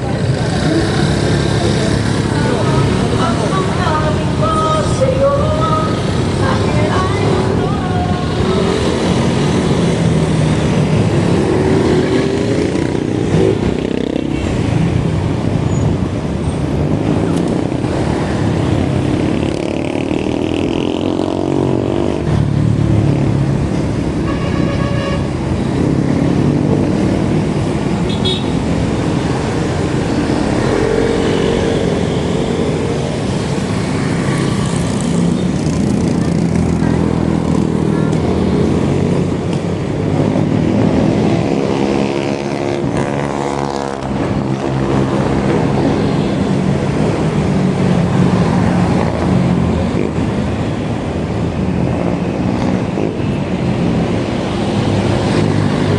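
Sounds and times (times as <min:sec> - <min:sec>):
vehicle engines accelerating: 0:00.0 - 0:24.2, 0:25.3 - 0:55.9.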